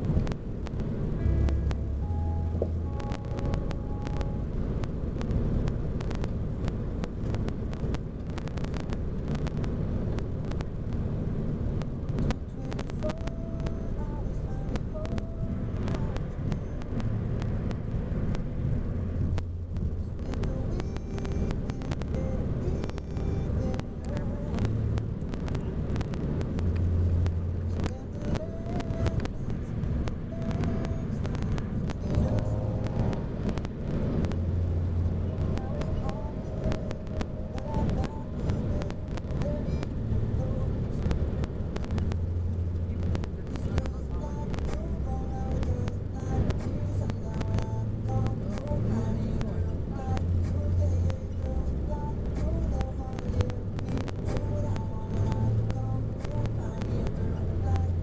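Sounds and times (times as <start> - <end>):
low road rumble: 0.0 - 58.0.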